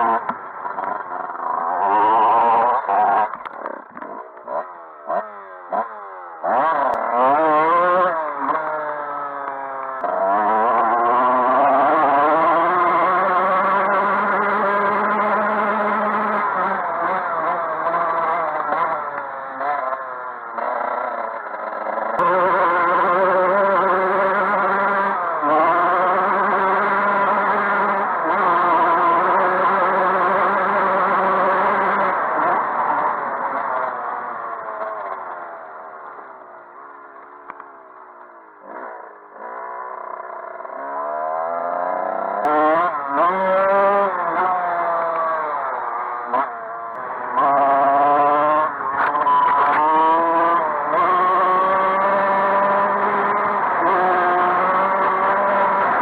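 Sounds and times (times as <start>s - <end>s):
dirt bike engine revving: 0.0s - 37.8s, 38.5s - 56.0s.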